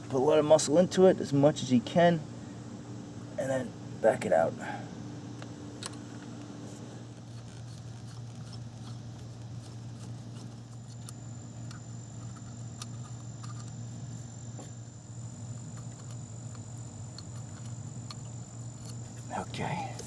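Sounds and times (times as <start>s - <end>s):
steady low hum: 0.0s - 20.0s
thin high whine: 0.0s - 20.0s.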